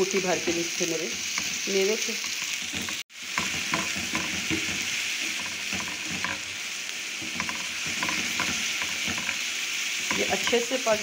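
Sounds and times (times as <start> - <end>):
spatula scraping pan: 0.0 - 6.6, 7.2 - 10.7
food sizzling in oil: 0.0 - 11.0.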